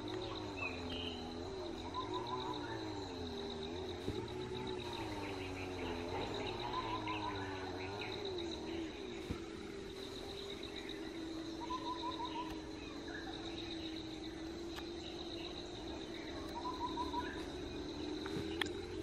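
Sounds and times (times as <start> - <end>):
bird chirps: 0.0 - 19.0
insects trilling: 0.0 - 19.0
low wavering hum: 0.0 - 19.0.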